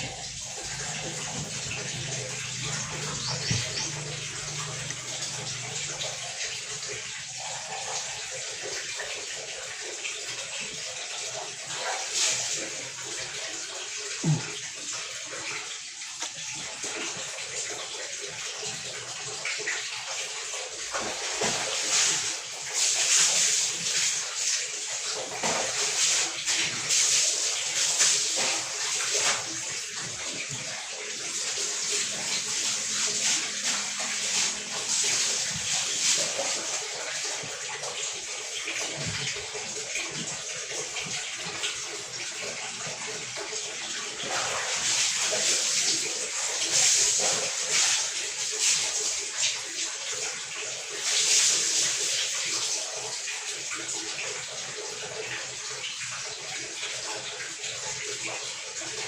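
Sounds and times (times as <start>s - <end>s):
water running and splashing: 0.0s - 59.0s.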